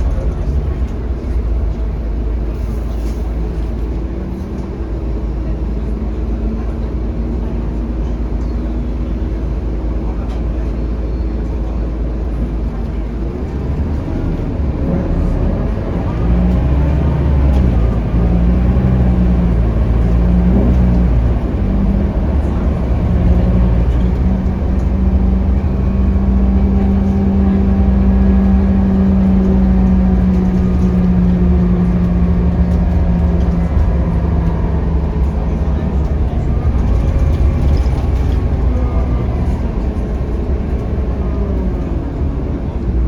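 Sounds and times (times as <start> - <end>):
bus diesel engine: 0.0 - 43.0.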